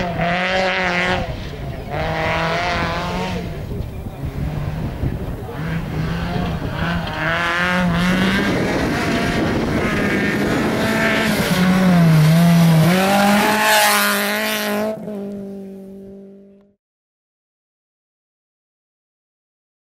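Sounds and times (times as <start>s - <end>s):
rally car engine revving: 0.0s - 16.7s.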